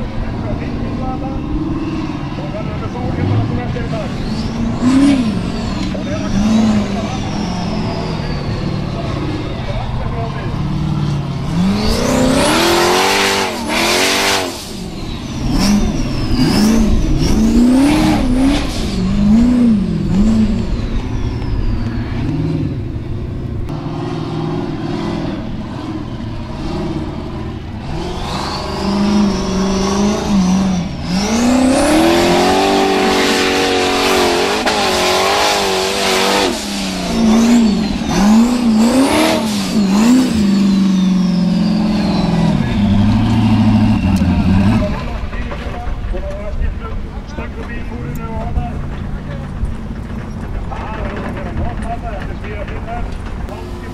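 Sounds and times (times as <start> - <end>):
buggy engine revving: 0.0 - 53.9.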